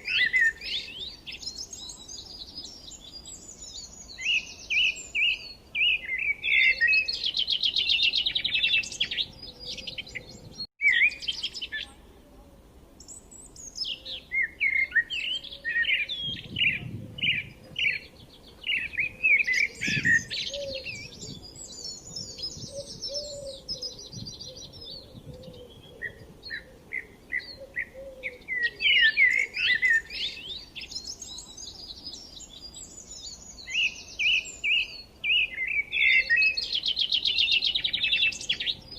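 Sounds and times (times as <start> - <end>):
songbirds chirping and singing: 0.0 - 12.1, 13.0 - 38.9.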